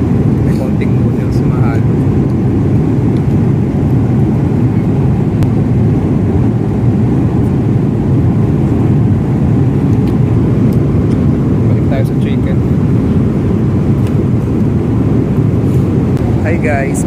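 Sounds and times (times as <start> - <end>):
airliner cabin noise: 0.0 - 17.0.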